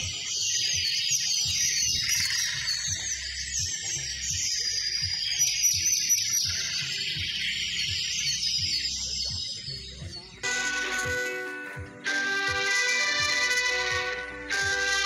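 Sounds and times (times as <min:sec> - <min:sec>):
high twittering chirps: 0:00.0 - 0:13.3
music with low pulsing beat: 0:00.0 - 0:15.0.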